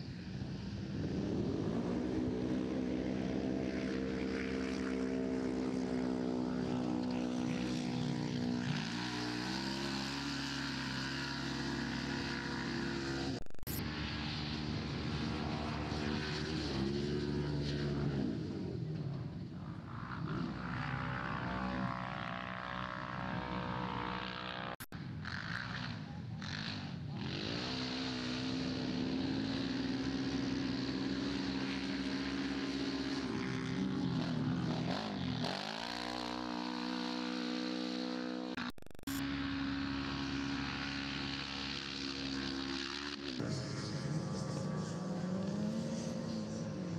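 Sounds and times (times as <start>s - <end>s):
off-road vehicle engines revving: 0.0s - 46.9s.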